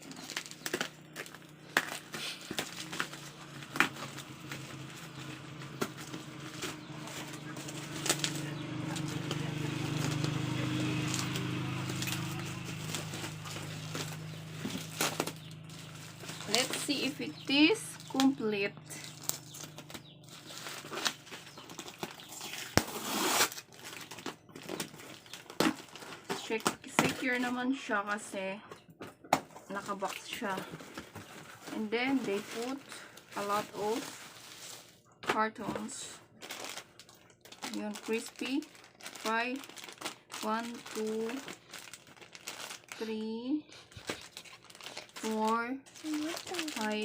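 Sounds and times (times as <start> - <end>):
cardboard packaging crinkling: 0.0 - 17.4, 18.0 - 27.5, 29.6 - 35.0, 36.4 - 43.1, 43.8 - 47.0.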